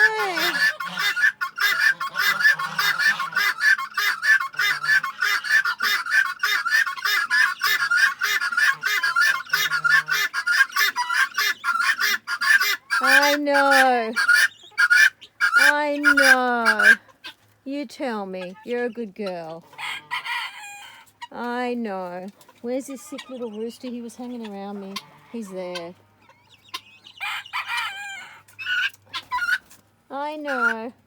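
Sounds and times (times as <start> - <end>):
guinea fowl calling: 0.0 - 17.4, 19.6 - 21.3, 22.4 - 29.8, 30.5 - 31.0.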